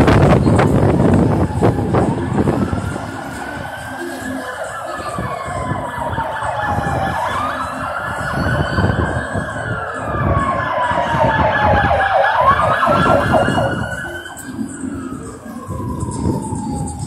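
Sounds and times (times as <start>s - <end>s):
low rumble of vehicle engines: 0.0s - 17.0s
siren wailing: 0.0s - 17.0s.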